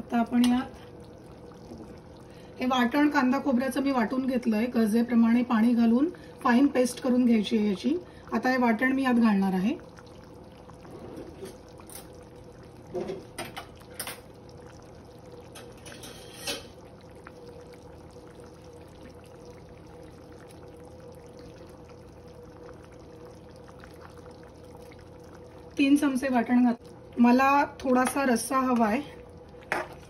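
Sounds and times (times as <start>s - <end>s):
curry bubbling in a pan: 0.0s - 30.0s
steady low hum: 0.0s - 30.0s.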